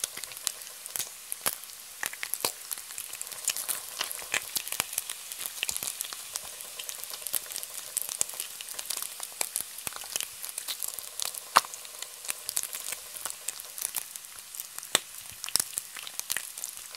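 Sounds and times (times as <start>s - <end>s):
bacon sizzling in a frying pan: 0.0s - 16.9s
fat popping and crackling: 0.0s - 16.9s.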